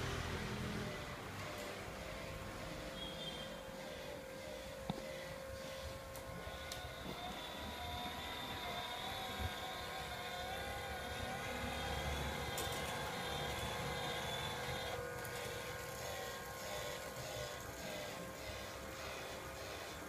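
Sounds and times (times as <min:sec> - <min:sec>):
small electric motor whining: 0:00.4 - 0:20.0.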